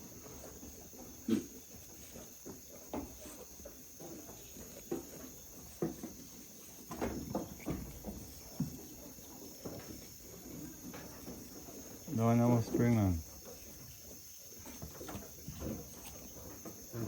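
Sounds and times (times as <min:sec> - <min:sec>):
crickets chirring: 0:00.0 - 0:17.0
knocks and rustles: 0:00.2 - 0:17.0.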